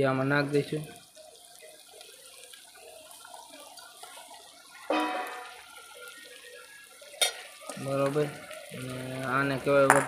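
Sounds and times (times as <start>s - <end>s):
gravy sizzling in a pot: 0.0s - 10.0s.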